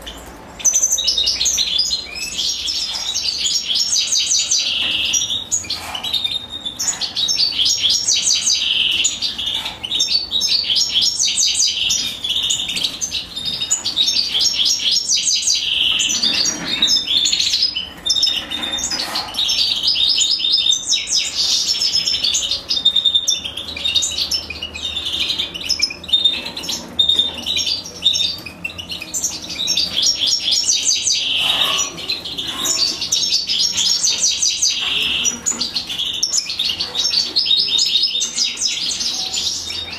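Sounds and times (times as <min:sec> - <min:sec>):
nestlings chirping: 0:00.0 - 0:39.9.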